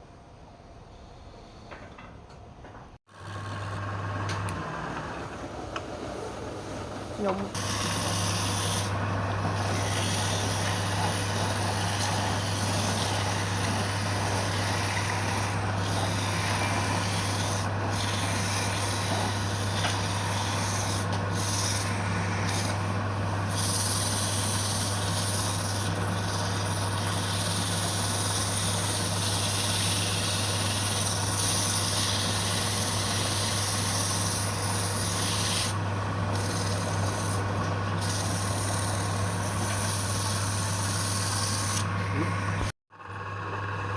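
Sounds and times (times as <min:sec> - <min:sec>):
lathe motor hum: 0:03.1 - 0:43.9
rasping against spinning wood: 0:07.2 - 0:42.7.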